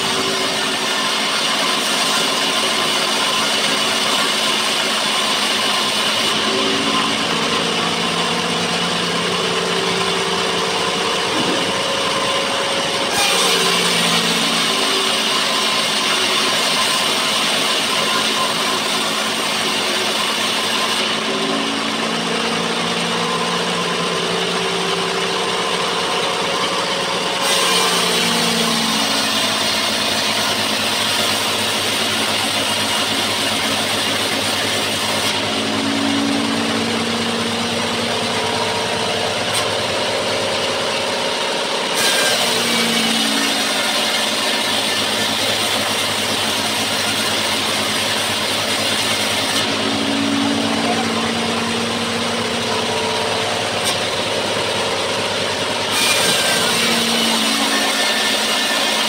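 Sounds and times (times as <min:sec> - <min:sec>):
band sawmill cutting wood: 0:00.0 - 0:59.0.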